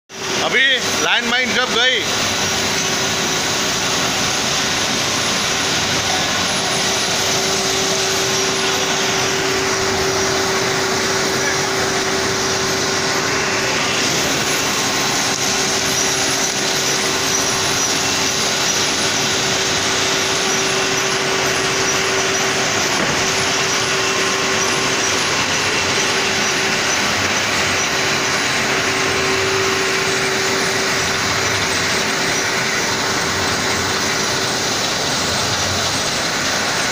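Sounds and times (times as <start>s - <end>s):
constant machine tone: 0.1s - 36.9s
loud steady machine noise: 0.1s - 36.9s.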